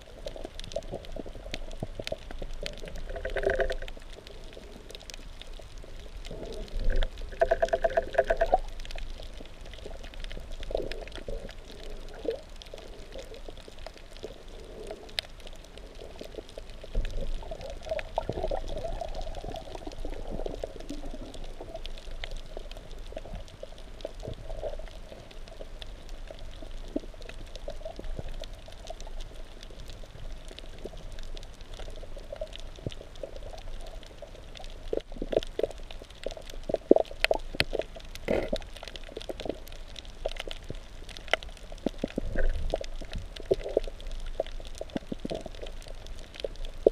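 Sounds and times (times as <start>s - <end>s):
underwater water rushing: 0.0s - 46.9s.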